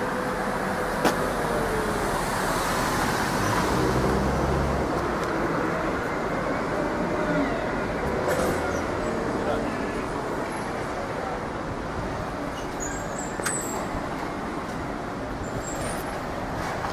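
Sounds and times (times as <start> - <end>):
road traffic: 0.0 - 16.9.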